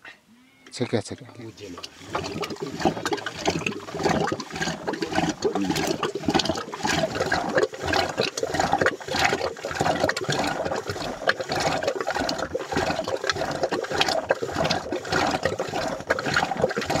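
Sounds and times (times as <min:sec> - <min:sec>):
milk sloshing in a pot: 0:01.6 - 0:17.0.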